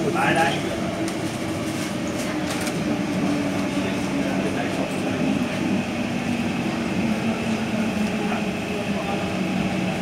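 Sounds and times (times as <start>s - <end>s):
train hum at station: 0.0s - 10.0s.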